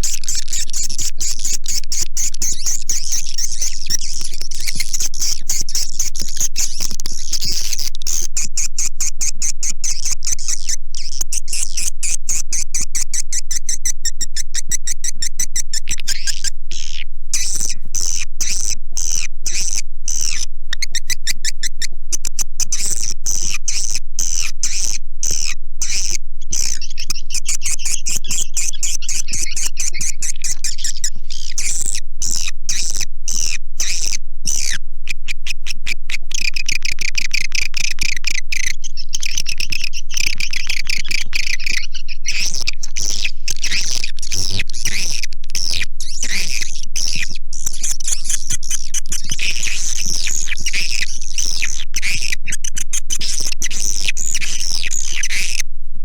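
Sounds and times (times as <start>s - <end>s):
swiftlet calls chattering: 0.0s - 55.6s.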